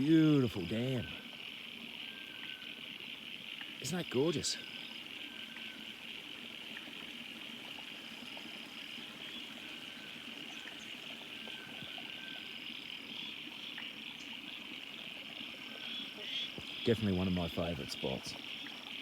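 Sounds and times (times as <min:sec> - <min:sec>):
water running: 0:00.0 - 0:01.4, 0:02.2 - 0:19.0
frogs and insects chorus: 0:00.0 - 0:19.0.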